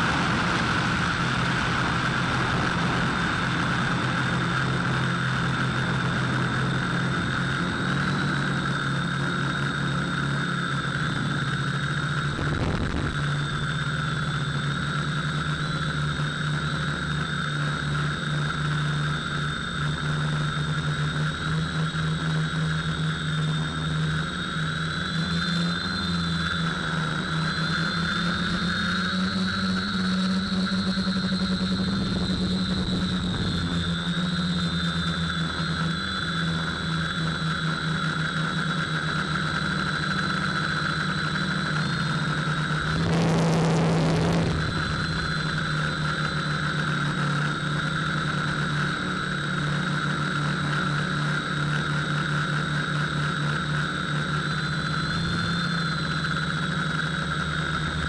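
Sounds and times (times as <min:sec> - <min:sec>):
drone motors whining: 0:00.0 - 0:58.0.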